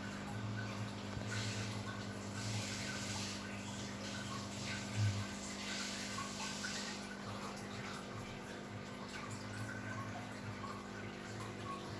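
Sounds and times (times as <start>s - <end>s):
electrical hum of pump: 0.0s - 11.9s
water trickling and bubbling: 0.0s - 11.9s.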